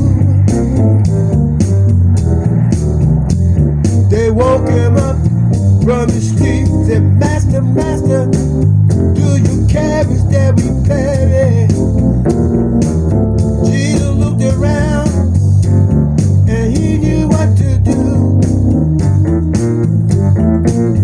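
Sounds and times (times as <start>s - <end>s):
bass: 0.0s - 21.0s
organ: 0.0s - 21.0s
steady drum beat: 0.0s - 21.0s.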